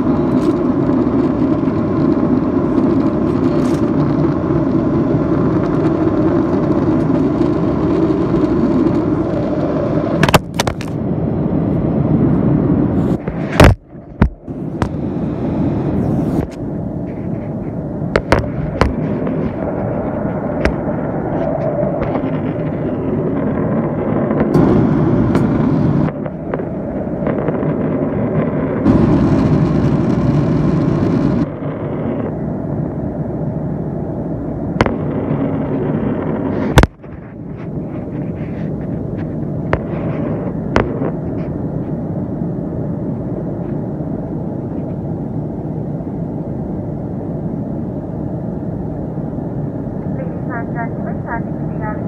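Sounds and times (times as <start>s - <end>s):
airliner cabin drone: 0.0s - 52.0s.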